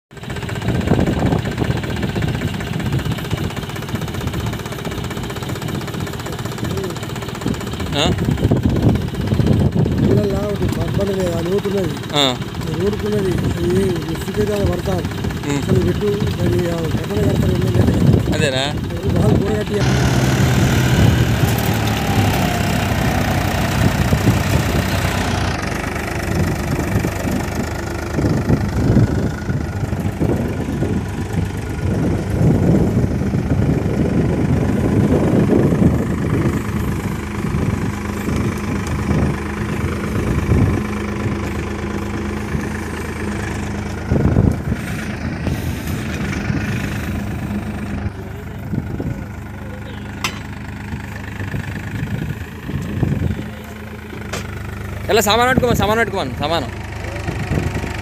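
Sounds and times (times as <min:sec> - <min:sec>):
tractor diesel engine idling: 0:00.1 - 0:58.0.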